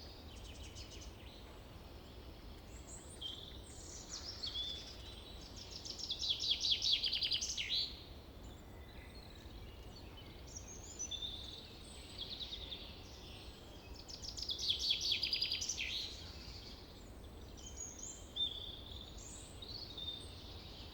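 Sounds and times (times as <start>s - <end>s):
songbirds singing: 0.0s - 20.9s.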